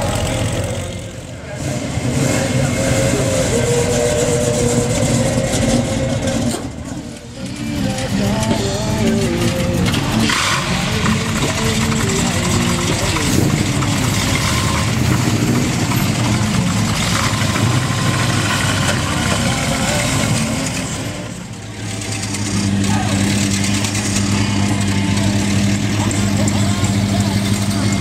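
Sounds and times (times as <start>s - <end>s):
background voices: 0.0s - 28.0s
car engine idling: 0.0s - 28.0s
car engines pulling away: 0.0s - 28.0s.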